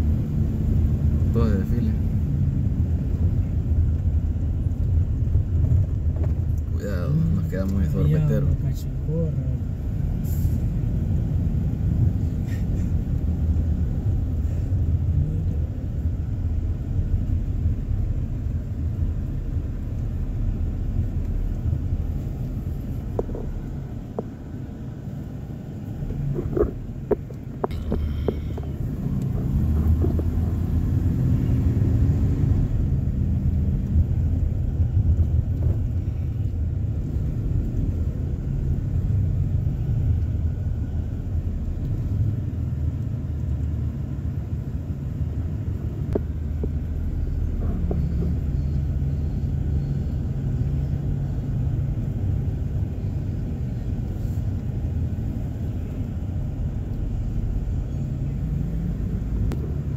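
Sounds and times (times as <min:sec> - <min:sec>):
car engine: 0:00.0 - 0:59.9
road rumble: 0:00.0 - 0:59.9.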